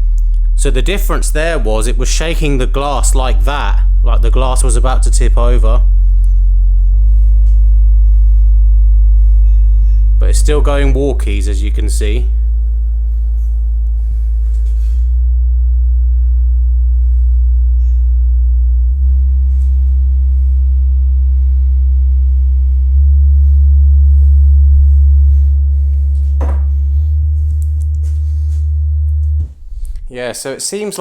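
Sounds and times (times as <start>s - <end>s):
stepped bass test tones: 0.0s - 30.4s.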